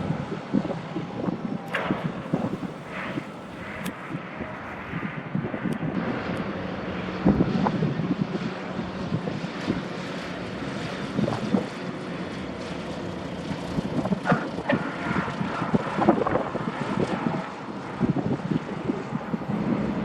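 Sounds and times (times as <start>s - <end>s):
airplane engine humming: 0.0s - 20.0s
wind buffeting microphone: 0.0s - 20.0s.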